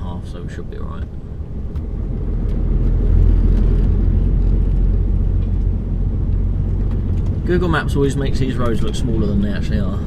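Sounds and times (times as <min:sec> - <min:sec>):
road noise: 0:00.0 - 0:10.0
diesel lorry engine running: 0:00.5 - 0:10.0.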